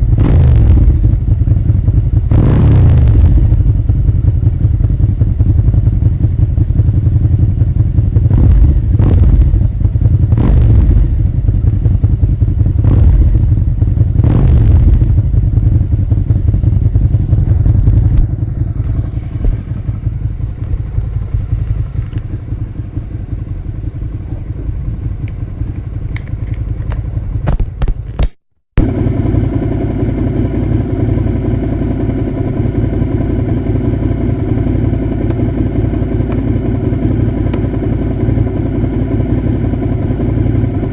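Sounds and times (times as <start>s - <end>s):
motorcycle engine revving: 0.0s - 28.2s, 28.8s - 40.9s.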